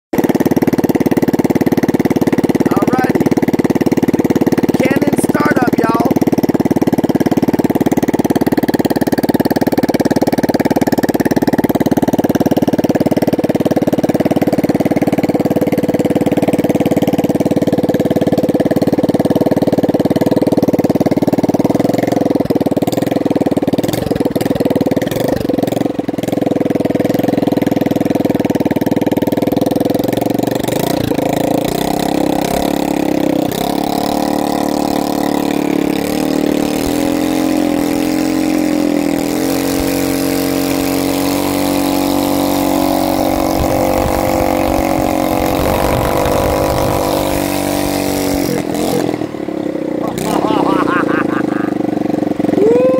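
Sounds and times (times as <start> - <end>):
small boat motor puttering: 0.2 - 52.9.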